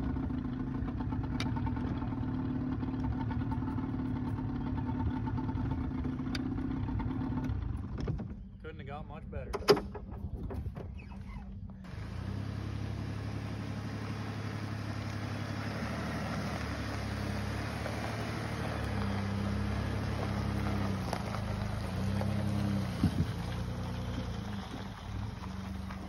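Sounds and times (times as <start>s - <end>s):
truck engine running under load: 0.0s - 8.9s, 11.6s - 26.0s.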